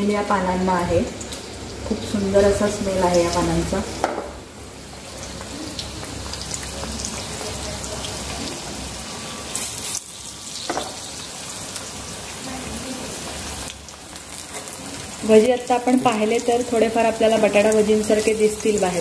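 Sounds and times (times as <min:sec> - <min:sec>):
leaves deep-frying in hot oil: 0:00.0 - 0:19.0.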